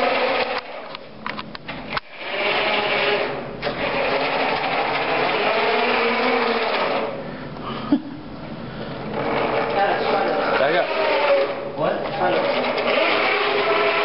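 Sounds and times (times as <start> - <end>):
electric motors whirring: 0.0 - 7.2, 8.8 - 14.0.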